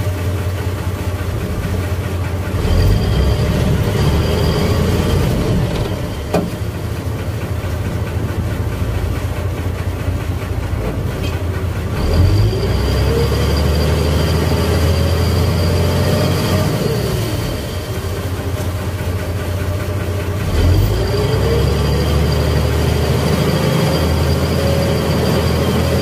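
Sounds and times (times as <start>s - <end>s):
diesel engine rumbling and revving: 0.0s - 26.0s.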